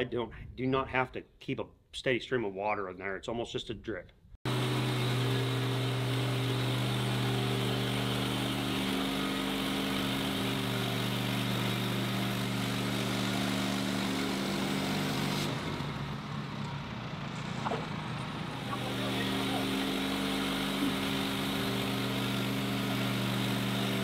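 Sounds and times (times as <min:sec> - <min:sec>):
sawmill gasoline engine running: 0:04.4 - 0:24.0.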